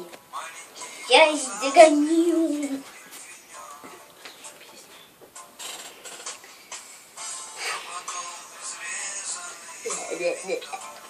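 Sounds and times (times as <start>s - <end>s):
background song: 0.0s - 11.0s.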